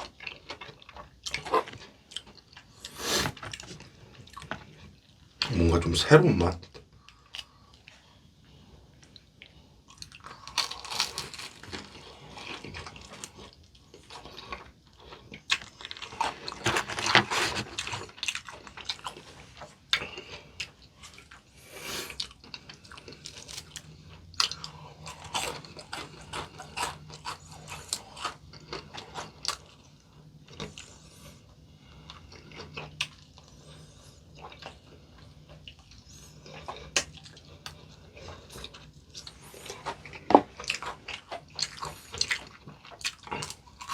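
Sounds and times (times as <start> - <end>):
crunchy chewing of fried chicken: 0.0 - 43.9.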